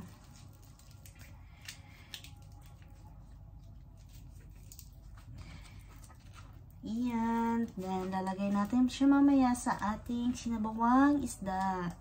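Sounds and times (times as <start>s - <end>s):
low steady hum: 0.0s - 12.0s
rustling and crackling stalks: 0.0s - 12.0s.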